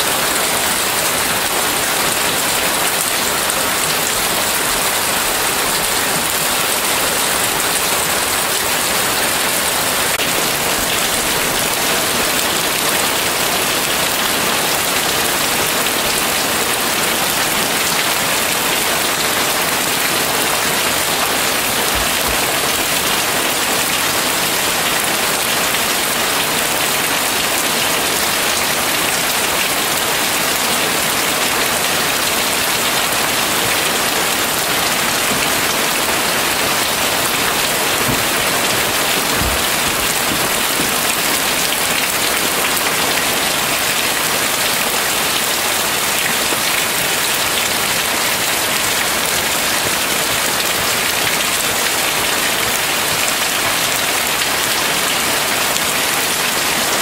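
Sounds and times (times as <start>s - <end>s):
heavy rain on pavement: 0.0s - 57.0s.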